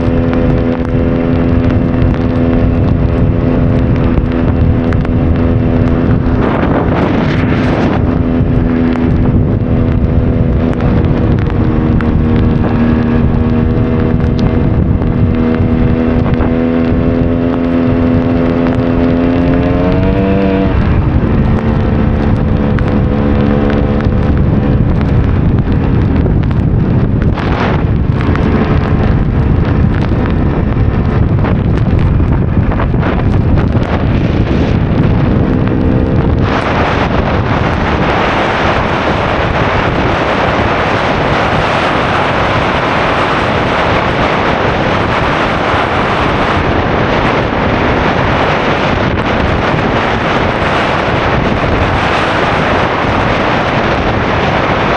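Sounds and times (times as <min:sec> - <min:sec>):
two-stroke motorcycle engine: 0:00.0 - 0:54.9
wind rushing on microphone: 0:00.0 - 0:54.9.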